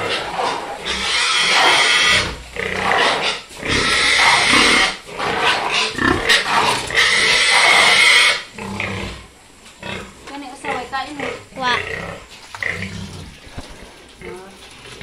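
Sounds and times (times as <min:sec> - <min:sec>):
pigs squealing: 0:00.0 - 0:15.0.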